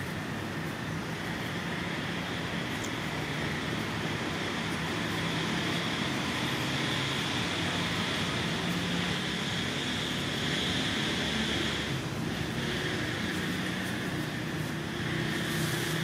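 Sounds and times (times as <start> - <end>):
background rumble and hiss: 0.0 - 16.0.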